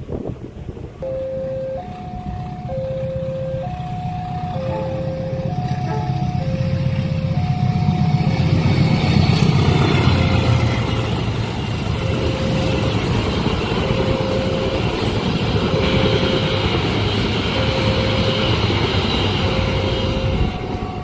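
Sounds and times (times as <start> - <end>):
train rumbling: 0.0 - 21.0
level crossing two-tone alarm: 1.0 - 21.0.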